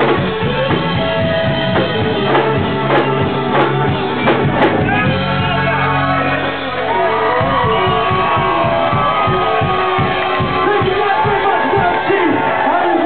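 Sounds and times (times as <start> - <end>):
electric guitar: 0.0 - 12.1
bass guitar: 0.0 - 13.0
drums: 0.0 - 13.0.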